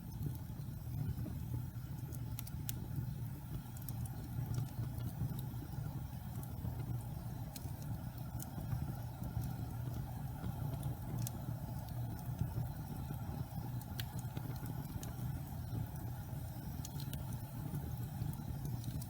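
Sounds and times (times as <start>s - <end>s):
fire crackles: 0.0s - 19.0s
fire rumbling in fireplace: 0.0s - 19.0s.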